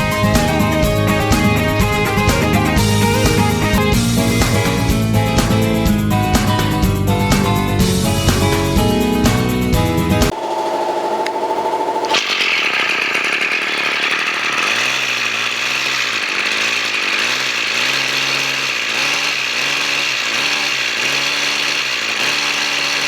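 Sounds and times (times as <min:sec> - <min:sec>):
brush cutter engine running: 0:00.0 - 0:10.2, 0:11.2 - 0:23.0.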